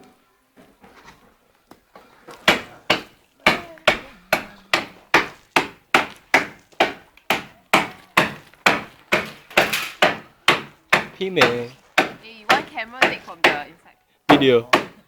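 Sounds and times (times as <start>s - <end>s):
steady hammering: 2.4s - 15.0s.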